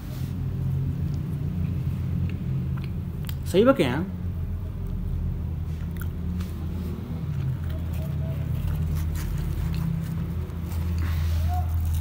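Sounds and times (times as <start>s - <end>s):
steady low hum: 0.0s - 12.0s
man chewing food: 0.8s - 3.4s, 4.7s - 12.0s.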